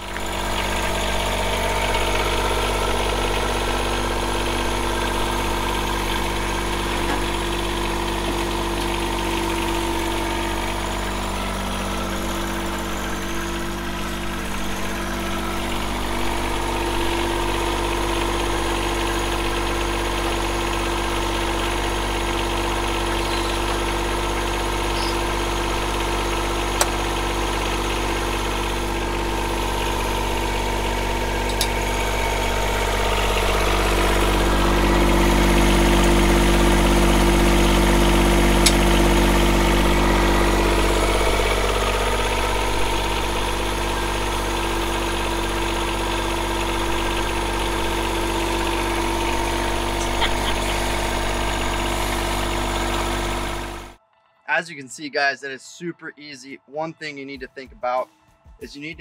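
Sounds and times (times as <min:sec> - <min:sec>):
diesel tractor engine idling: 0:00.0 - 0:55.3.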